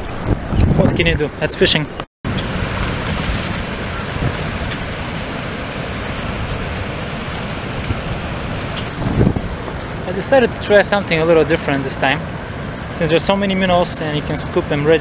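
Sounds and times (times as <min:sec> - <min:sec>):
river water rushing over rocks: 0:02.3 - 0:15.0.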